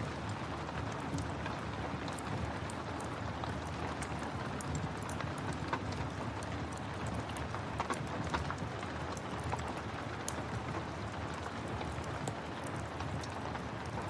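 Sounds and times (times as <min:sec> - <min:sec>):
wood fire crackling: 0:00.3 - 0:14.0.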